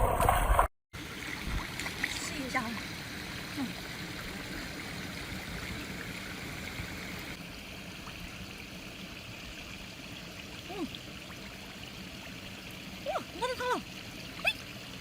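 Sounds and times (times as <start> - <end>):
running water rushing: 1.0 - 15.0.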